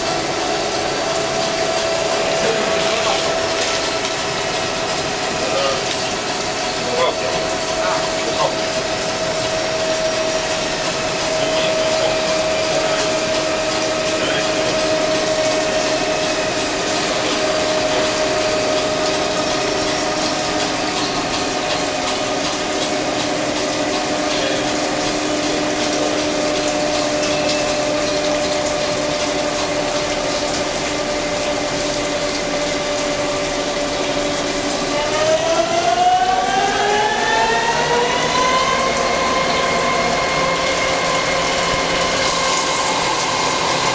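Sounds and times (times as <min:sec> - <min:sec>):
lathe whining: 0:00.0 - 0:24.2, 0:32.8 - 0:43.9.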